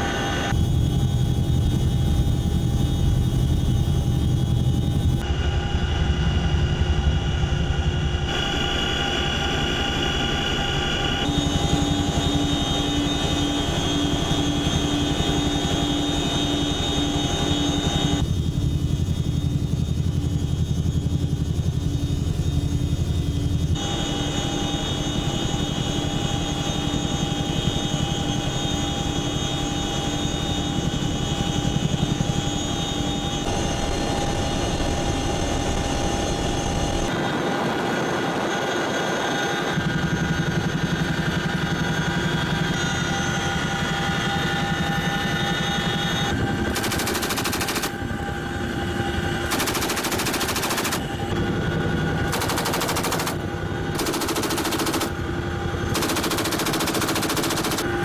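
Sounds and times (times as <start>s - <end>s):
helicopter rotor and turbine noise: 0.0s - 58.0s.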